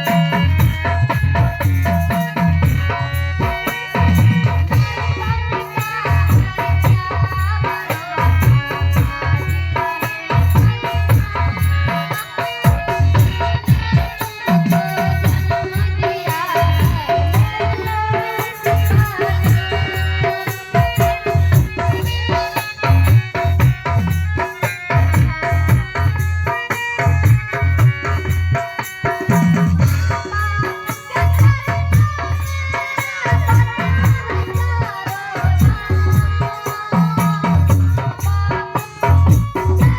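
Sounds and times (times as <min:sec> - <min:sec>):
heavy drum beat: 0:00.0 - 0:09.6, 0:10.2 - 0:39.9.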